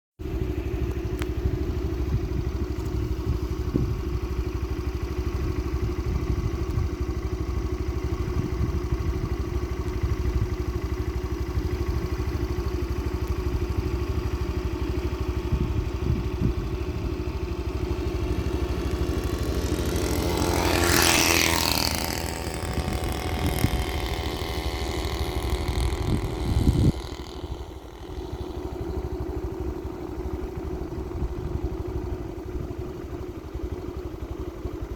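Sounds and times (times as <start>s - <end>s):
vehicle engine running: 0.2s - 34.9s.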